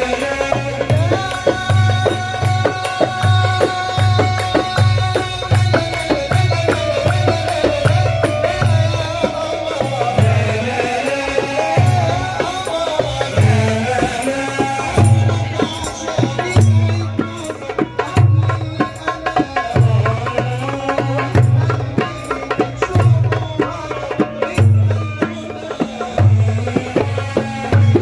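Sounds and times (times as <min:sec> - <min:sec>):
hand percussion: 0:00.0 - 0:28.0.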